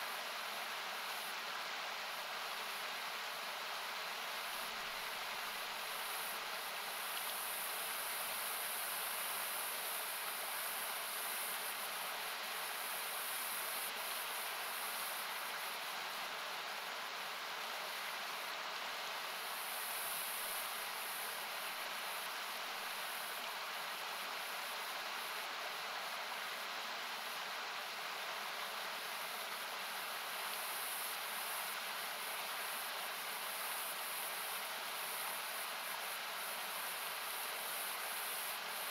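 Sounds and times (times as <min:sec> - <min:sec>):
high hiss: 0:00.0 - 0:38.9.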